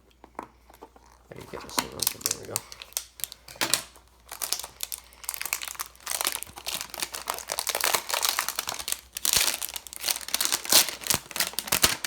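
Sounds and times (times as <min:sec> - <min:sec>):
plastic wrapping crinkling: 0:00.3 - 0:12.0.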